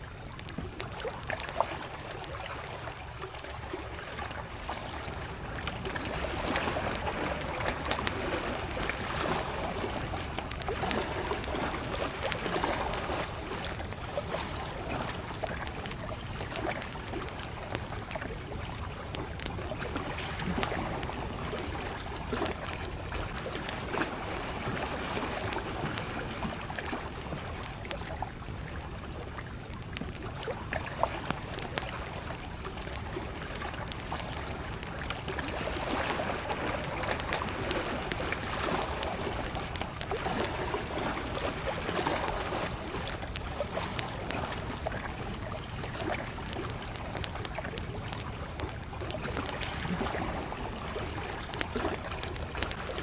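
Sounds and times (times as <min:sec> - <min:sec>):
campfire crackling: 0:00.0 - 0:53.0
lake waves lapping at shore: 0:00.0 - 0:53.0.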